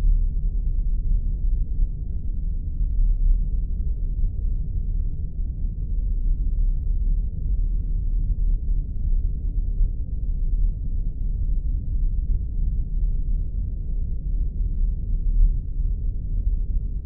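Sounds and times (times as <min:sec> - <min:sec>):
deep rumbling drone: 0:00.0 - 0:17.0.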